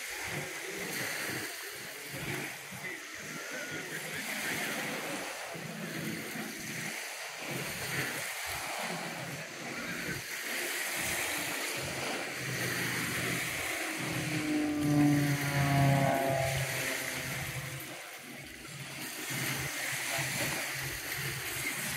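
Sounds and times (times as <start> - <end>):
faint voices: 0.0 - 21.9
small waves lapping: 0.0 - 21.9
wind rumbling on microphone: 0.0 - 21.9.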